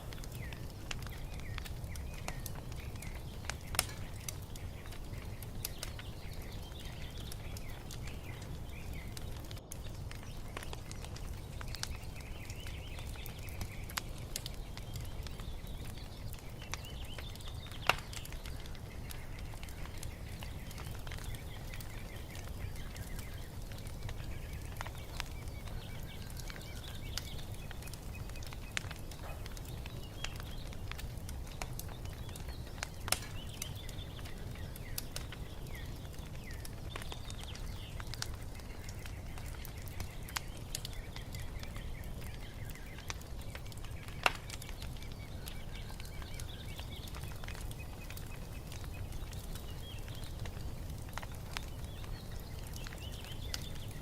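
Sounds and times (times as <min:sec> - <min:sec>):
birds chirping faintly: 0:00.0 - 0:54.0
sharp fire pops: 0:00.0 - 0:54.0
wood fire crackling: 0:00.0 - 0:54.0.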